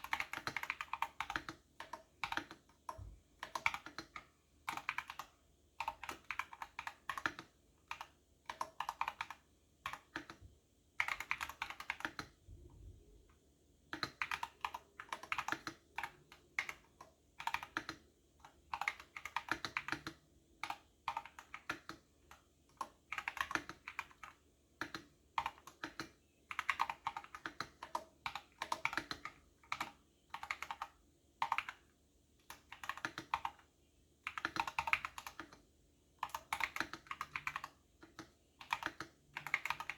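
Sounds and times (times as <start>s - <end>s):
computer keyboard typing: 0.0s - 10.4s, 11.0s - 12.4s, 13.9s - 39.9s.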